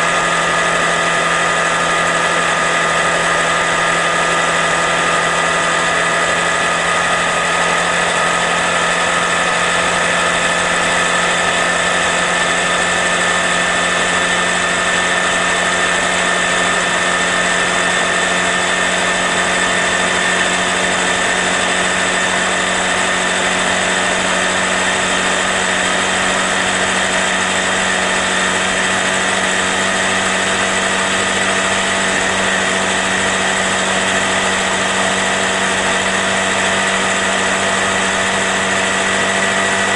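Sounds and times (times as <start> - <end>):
motorcycle engine buzzing: 0.0 - 39.9.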